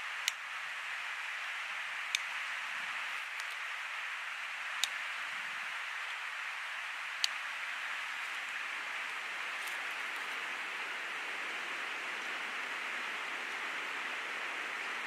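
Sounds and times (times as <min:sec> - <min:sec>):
creek water running: 0:00.2 - 0:15.0.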